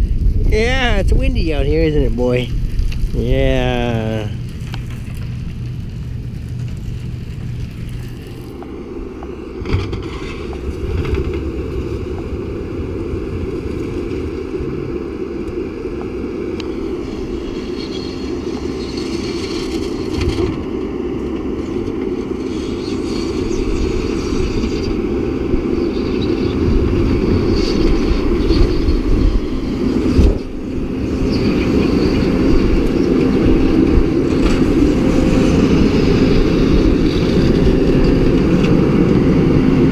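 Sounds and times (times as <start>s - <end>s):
tractor engine running: 0.0s - 39.9s
wind noise: 0.0s - 39.9s.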